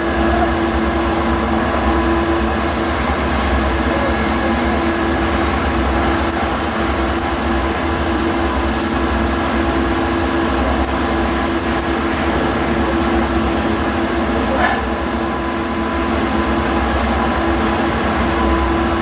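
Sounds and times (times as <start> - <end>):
loud mechanical hum: 0.0 - 19.0.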